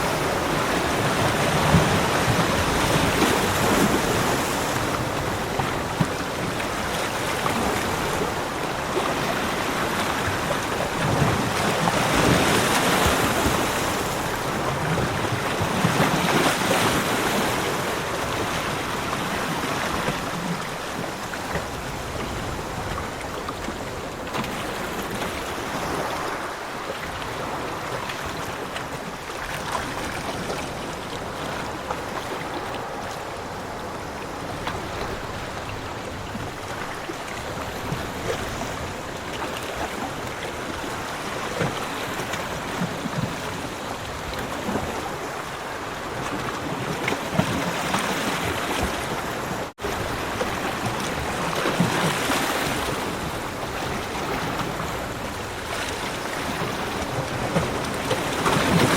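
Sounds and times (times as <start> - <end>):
sea surf washing on beach: 0.0 - 58.9.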